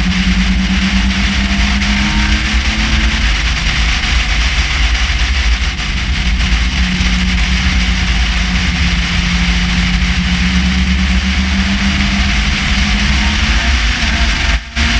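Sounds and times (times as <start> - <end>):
race car engine running: 0.0 - 14.9
wind and road noise: 0.0 - 14.9.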